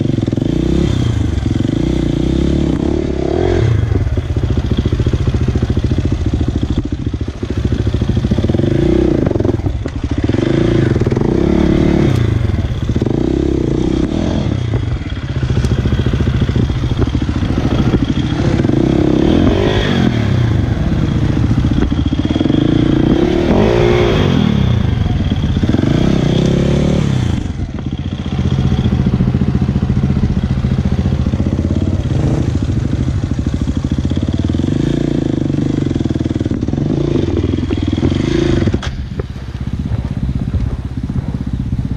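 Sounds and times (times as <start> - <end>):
motocross bike engine running: 0.0 - 41.9.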